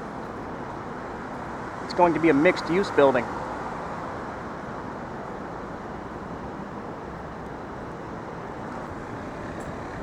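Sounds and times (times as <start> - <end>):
street traffic hum: 0.0 - 10.0.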